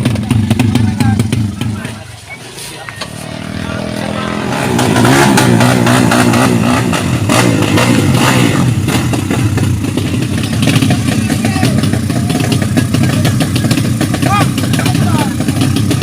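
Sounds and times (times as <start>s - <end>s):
racing motorcycles revving: 0.0s - 16.0s.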